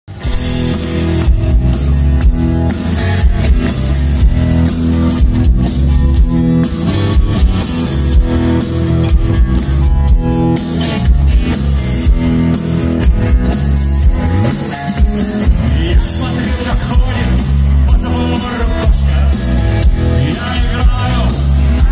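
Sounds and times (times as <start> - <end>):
bass guitar: 0.1 - 21.9
drum kit: 0.1 - 21.9
electric guitar: 0.1 - 21.9.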